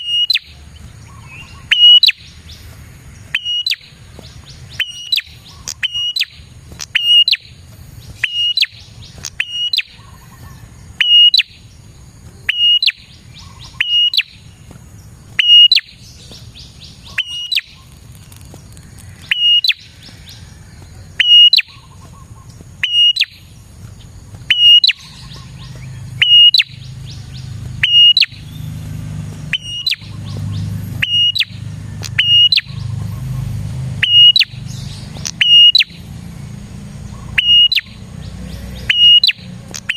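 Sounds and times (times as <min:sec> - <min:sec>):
bird giving sharp high chirps: 0:00.0 - 0:18.4, 0:19.0 - 0:23.6, 0:24.4 - 0:39.9.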